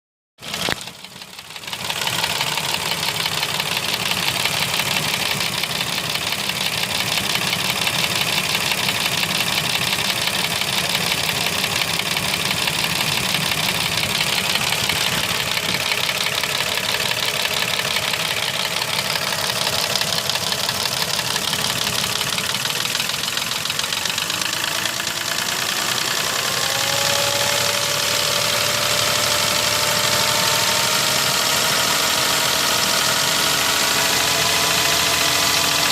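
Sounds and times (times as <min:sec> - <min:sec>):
engine idling with rapid knock: 0:00.4 - 0:35.9.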